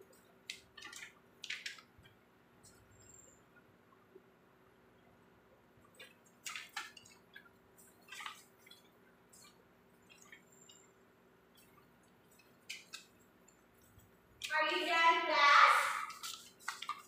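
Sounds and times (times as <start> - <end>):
faint clicks and taps: 0.0 - 4.3, 5.8 - 14.6, 16.1 - 17.0
faint steady hum: 0.0 - 17.0.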